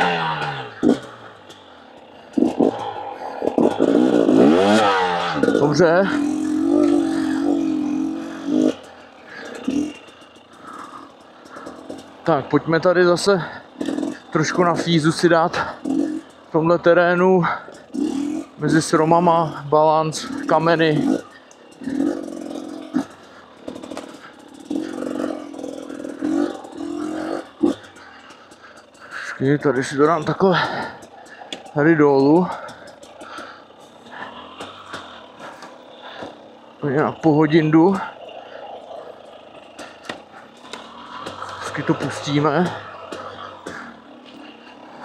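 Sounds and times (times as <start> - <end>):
two-stroke motorcycle engine: 0.0 - 45.0.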